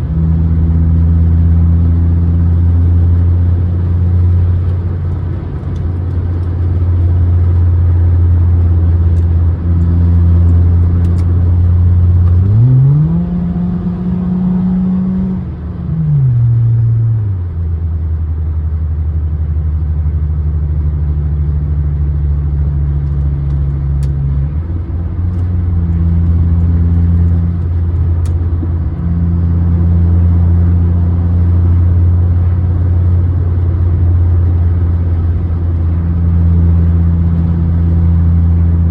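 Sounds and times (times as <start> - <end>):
car engine running and revving: 0.0 - 38.9.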